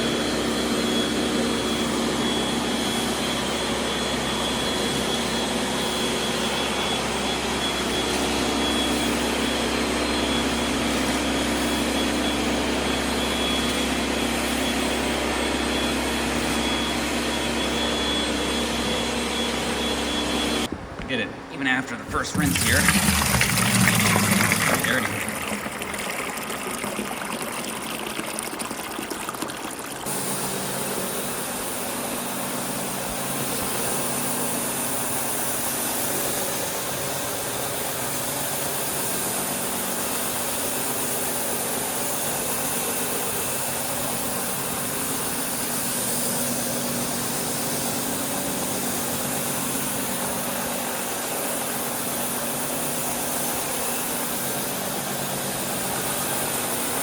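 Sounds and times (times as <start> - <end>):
floor cleaning machine humming: 0.0 - 21.0, 22.0 - 41.2, 42.0 - 57.0.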